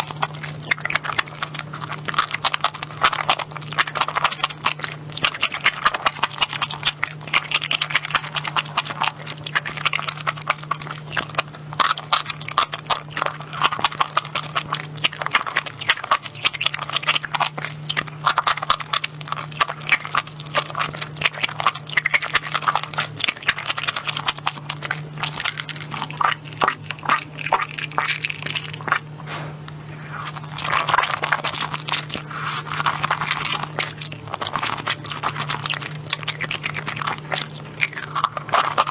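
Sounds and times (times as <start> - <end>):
chewing crunches and smacks: 0.0 - 38.9
steady low hum: 0.0 - 38.9.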